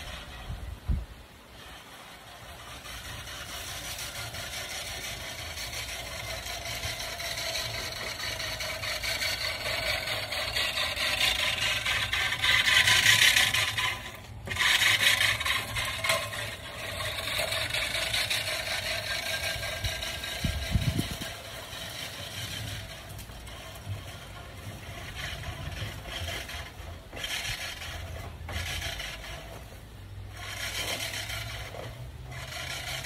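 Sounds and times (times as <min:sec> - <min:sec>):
push reel mower cutting grass: 0:00.0 - 0:33.0.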